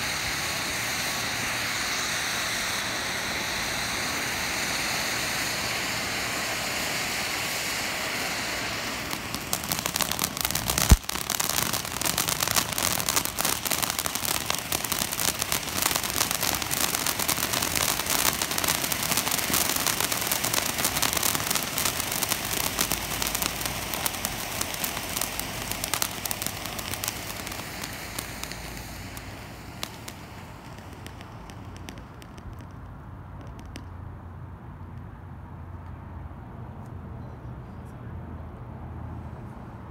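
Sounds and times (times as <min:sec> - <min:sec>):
firework fountain hissing: 0:00.0 - 0:34.3
firework crackling: 0:00.0 - 0:35.2.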